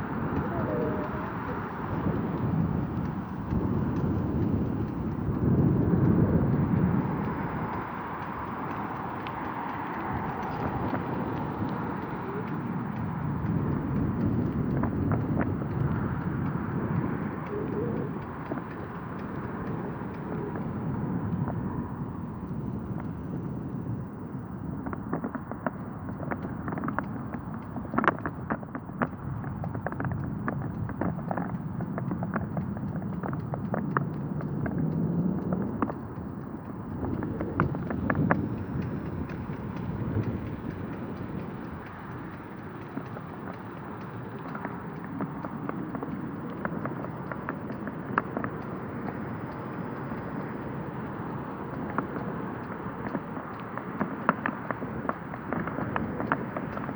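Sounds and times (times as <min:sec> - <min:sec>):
faint clicks: 0:00.0 - 0:56.9
mountain bike tyre and frame noise: 0:00.0 - 0:56.9
wind buffeting microphone: 0:00.0 - 0:56.9.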